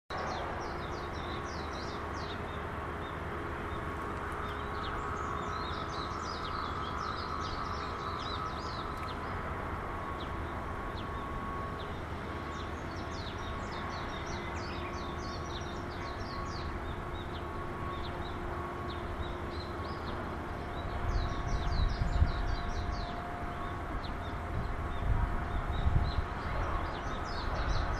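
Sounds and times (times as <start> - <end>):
wind rumble on microphone: 0.1 - 27.9
small birds chirping: 0.2 - 9.5, 10.1 - 27.9.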